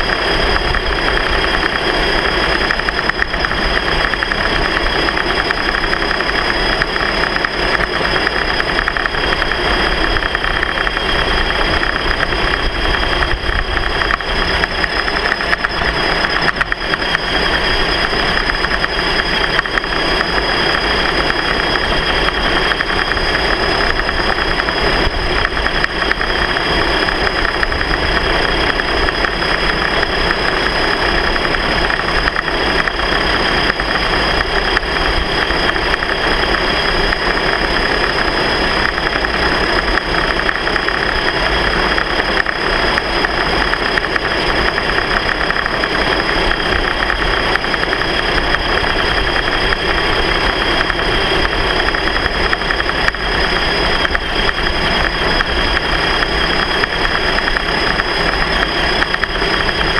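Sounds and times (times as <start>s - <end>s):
high whine: 0.0s - 59.9s
vehicle motor noise: 0.0s - 59.9s.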